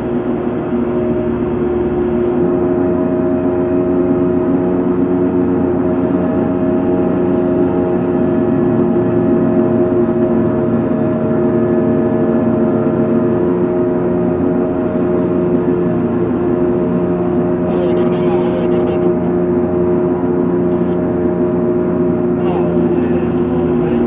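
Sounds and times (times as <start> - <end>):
engine-room machinery drone: 0.0 - 24.0.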